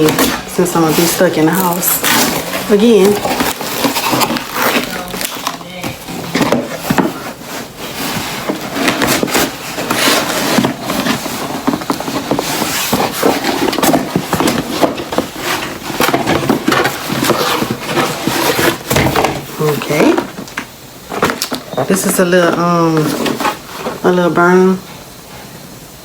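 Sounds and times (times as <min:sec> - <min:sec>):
cardboard and wrapping rustling: 0:00.0 - 0:25.7.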